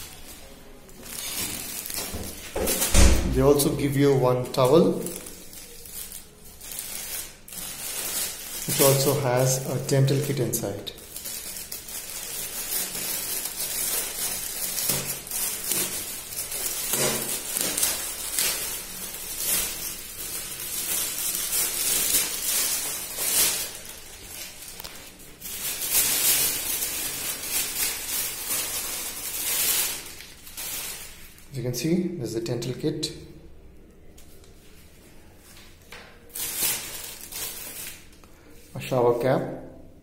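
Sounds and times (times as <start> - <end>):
plastic bag crinkling: 0.0 - 31.6, 34.2 - 38.9.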